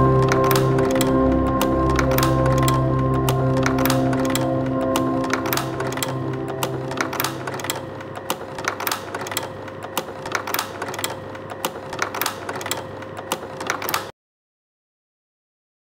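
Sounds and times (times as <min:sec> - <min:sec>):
mechanical clicking and clacking: 0:00.0 - 0:14.1
slide projector humming: 0:00.0 - 0:14.1.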